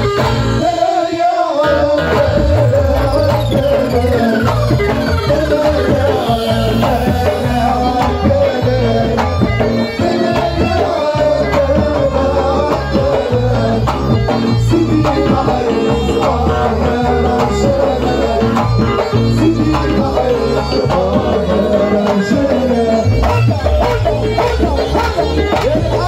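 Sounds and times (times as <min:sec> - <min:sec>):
bagpipe melody: 0:01.9 - 0:26.0.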